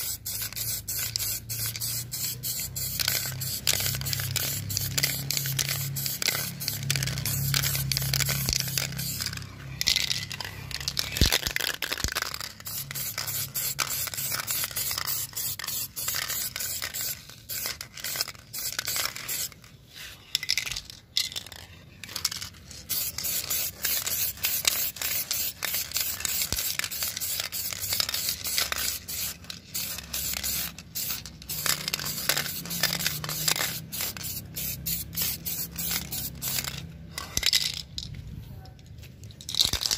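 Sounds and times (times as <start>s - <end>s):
spray paint can hissing: 0.0s - 19.6s, 22.1s - 37.8s.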